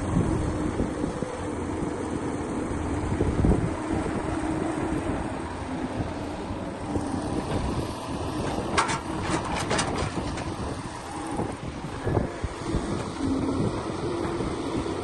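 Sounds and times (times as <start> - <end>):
heavy machinery diesel engine running: 0.0 - 15.0.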